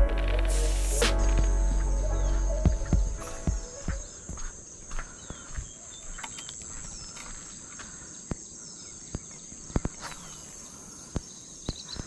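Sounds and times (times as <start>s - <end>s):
insect chorus: 0.1s - 12.0s
faint bird chirps: 1.2s - 12.0s.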